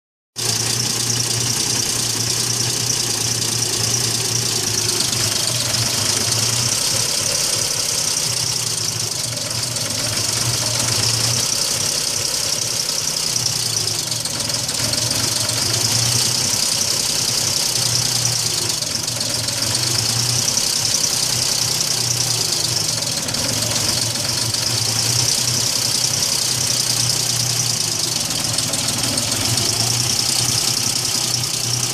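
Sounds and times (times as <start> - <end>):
car engine idling: 0.4 - 31.9.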